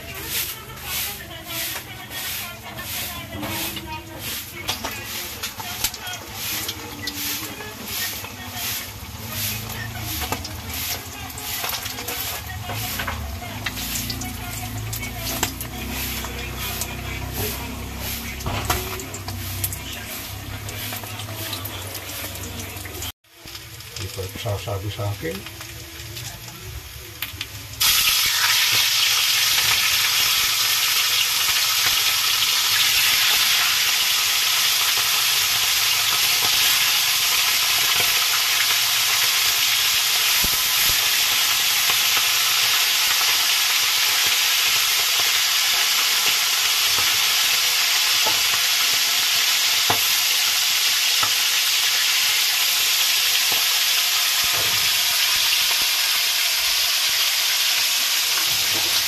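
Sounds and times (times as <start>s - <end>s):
fish frying in hot oil: 0.0s - 59.0s.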